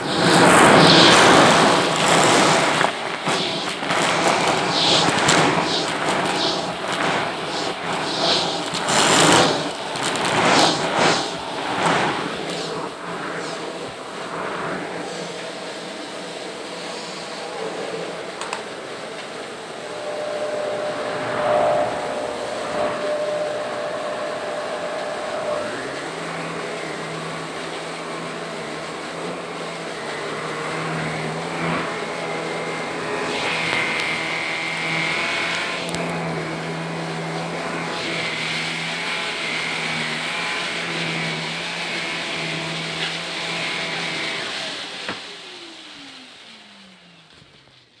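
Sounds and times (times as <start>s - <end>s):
vacuum motor winding down: 0.0s - 47.9s
vacuum cleaner running: 0.0s - 48.0s.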